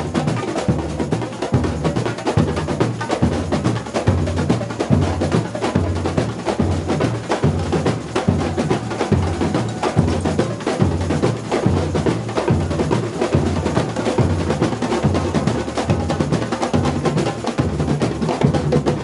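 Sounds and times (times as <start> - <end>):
hand percussion: 0.0 - 19.0
snare drums rattling: 0.0 - 19.0.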